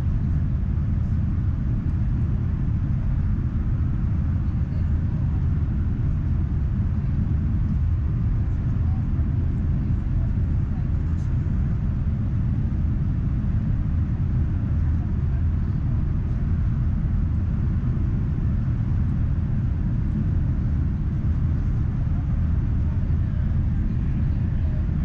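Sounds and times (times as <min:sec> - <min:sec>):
train interior rumble: 0:00.0 - 0:25.0.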